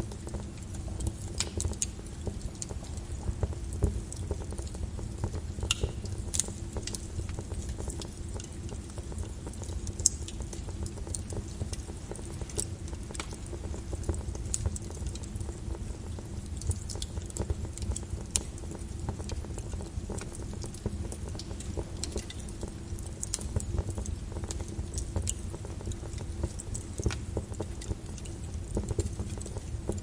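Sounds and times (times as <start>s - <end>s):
lava crackling and popping: 0.0s - 30.0s.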